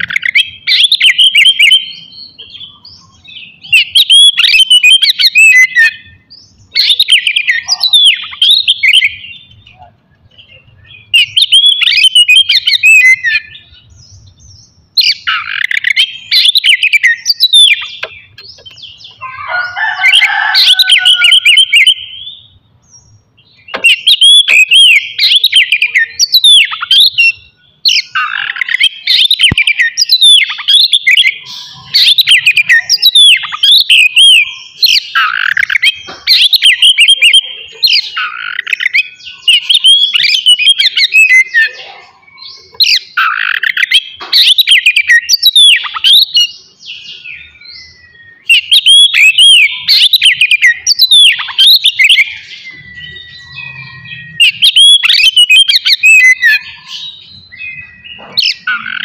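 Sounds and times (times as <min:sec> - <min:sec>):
bird singing whistled phrases: 0:00.0 - 0:13.8, 0:15.0 - 0:22.5, 0:23.6 - 0:59.0.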